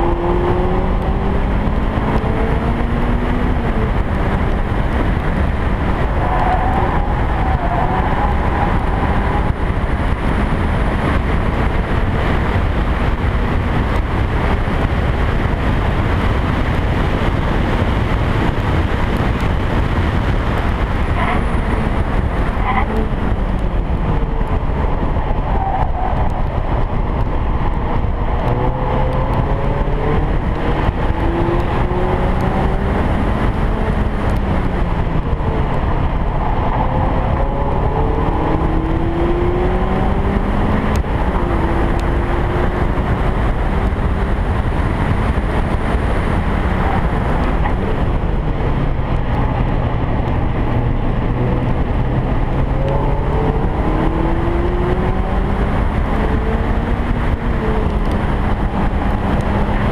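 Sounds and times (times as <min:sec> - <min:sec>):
heavy wind rush: 0:00.0 - 0:59.9
race car engine revving: 0:00.0 - 0:59.9.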